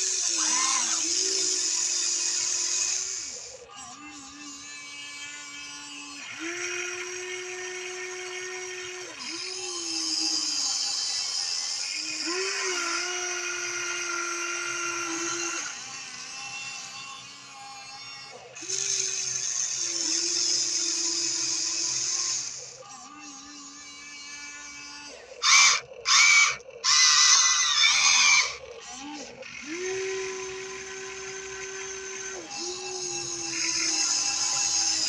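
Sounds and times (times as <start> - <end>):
electric gear motors whining: 0.0 - 35.0.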